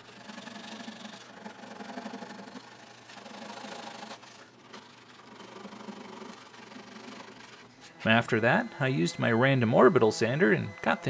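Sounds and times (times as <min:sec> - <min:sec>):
hand saw rasping through wood: 0:00.0 - 0:11.0.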